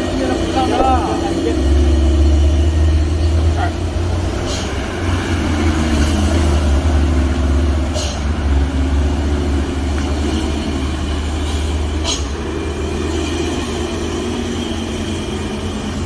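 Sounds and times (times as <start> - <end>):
heavy vehicle engine droning: 0.0 - 16.0.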